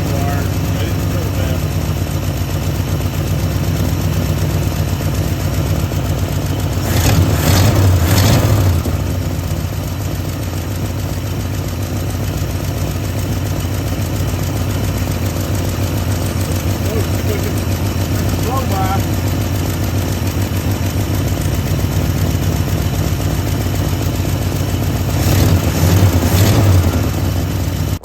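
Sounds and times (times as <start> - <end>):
engine running and revving: 0.0 - 28.0.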